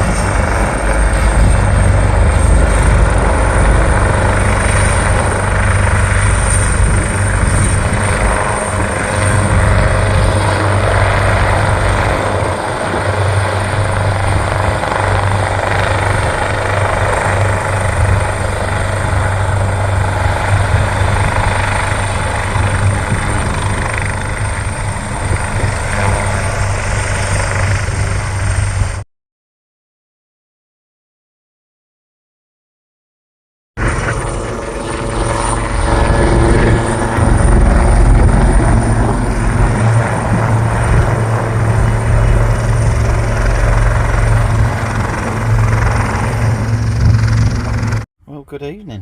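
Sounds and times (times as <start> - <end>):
helicopter rotor and engine: 0.0 - 29.0, 33.8 - 48.1.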